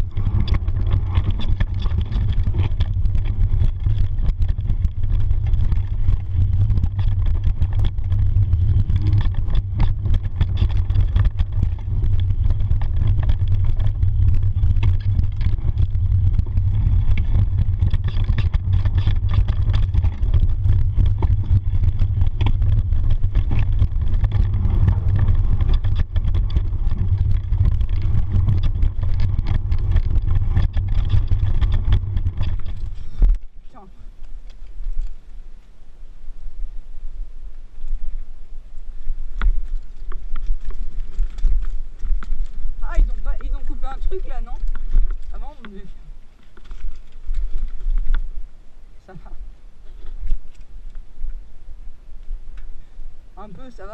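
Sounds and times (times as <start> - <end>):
bike clattering over rough ground: 0.0 - 35.2, 39.0 - 48.4
wind rumbling on microphone: 0.0 - 53.9.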